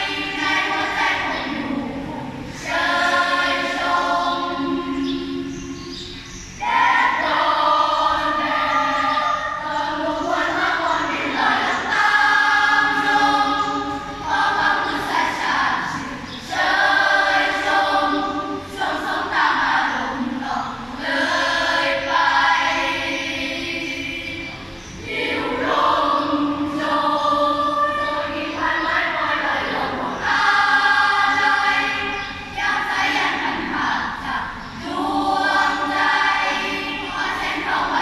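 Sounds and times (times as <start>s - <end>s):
children's choir singing: 0.0s - 38.0s.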